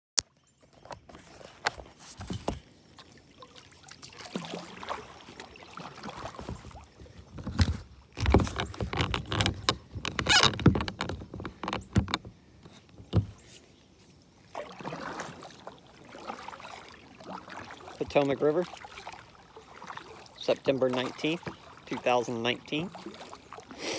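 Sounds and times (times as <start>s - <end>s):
paddle knocks and clatters: 0.3s - 3.2s, 3.9s - 13.7s, 14.5s - 23.6s
paddle strokes splashing: 0.6s - 23.9s.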